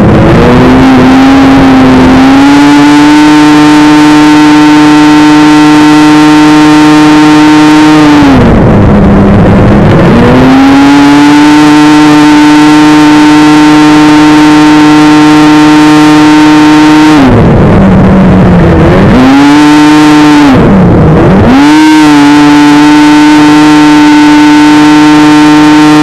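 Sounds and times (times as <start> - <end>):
snowmobile engine revving: 0.0 - 26.0.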